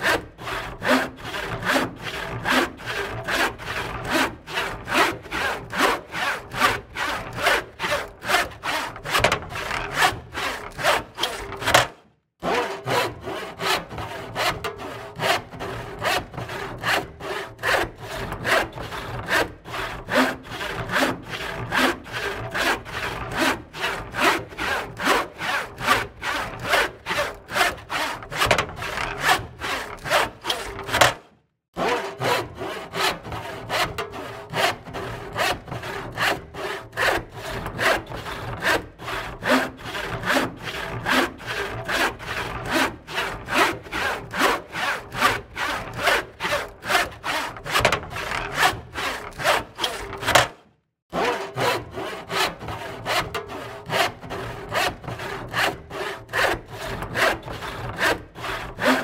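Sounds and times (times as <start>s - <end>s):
hand saw cutting wood: 0.0s - 59.0s.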